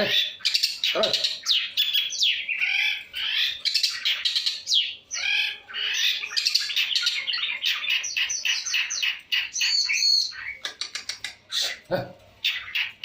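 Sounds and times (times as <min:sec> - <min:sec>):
bird chattering song: 0:00.0 - 0:13.0.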